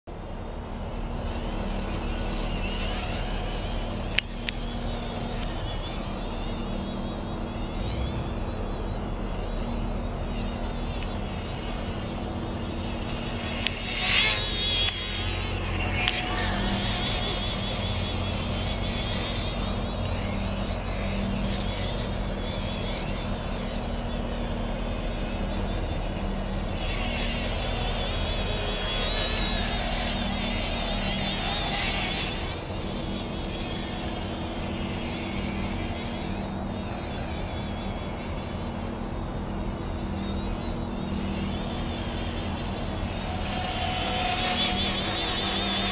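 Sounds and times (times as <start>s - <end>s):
electric model plane motor whining: 0.1s - 45.9s.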